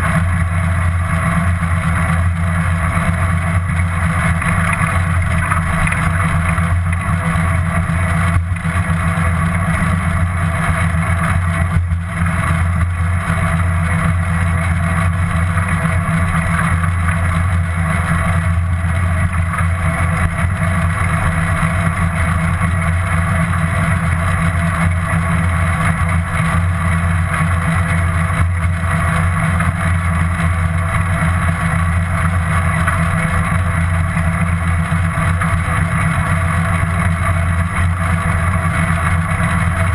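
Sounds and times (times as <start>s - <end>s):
bicycle rumble: 0.0s - 39.9s.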